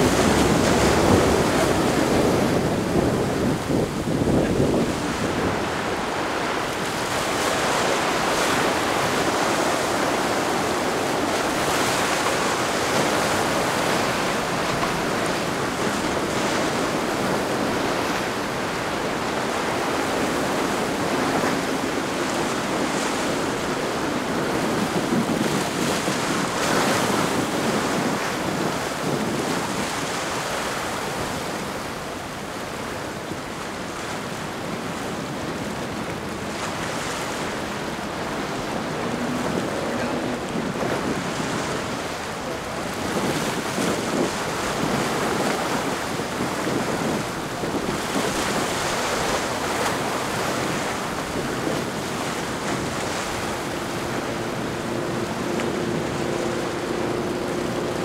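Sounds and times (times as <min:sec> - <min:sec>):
faint boat engine drone: 0:00.0 - 0:58.0
waves breaking and rushing: 0:00.0 - 0:58.0
wind buffeting microphone: 0:00.0 - 0:58.0.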